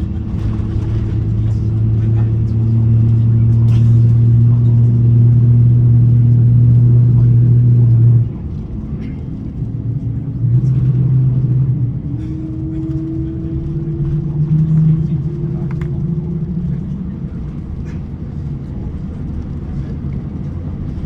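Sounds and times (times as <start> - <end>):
airplane cabin hum: 0.0 - 21.0.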